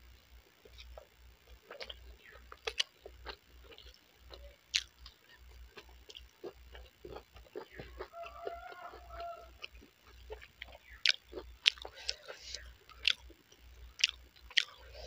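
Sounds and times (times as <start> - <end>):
person chewing food: 0.6 - 15.0.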